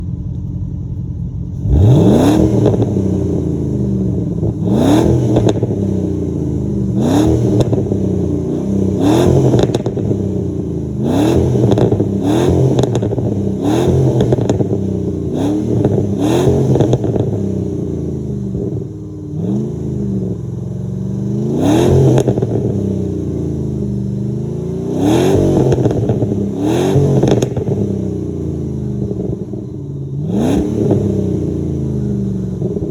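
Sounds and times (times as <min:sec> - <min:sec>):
exhaust crackles and pops: 0:00.1 - 0:23.4, 0:24.8 - 0:32.9
car engine revving: 0:01.3 - 0:32.9.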